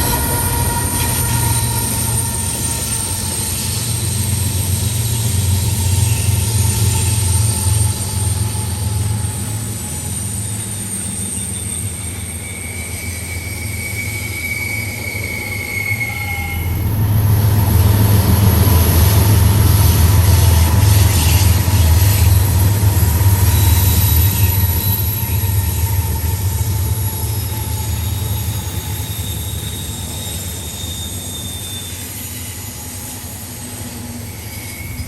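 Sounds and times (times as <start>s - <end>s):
train rumbling on rails: 0.0s - 35.0s
train wheel squeal: 0.0s - 35.0s.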